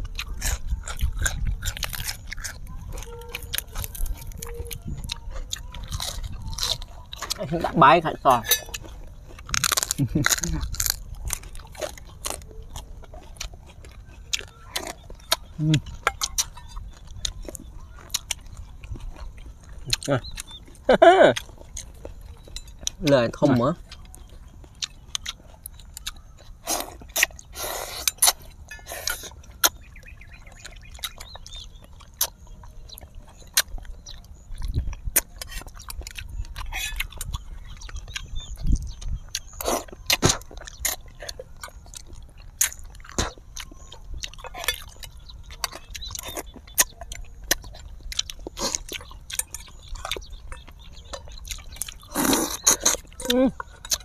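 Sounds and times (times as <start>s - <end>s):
chewing and biting: 0.0s - 54.0s.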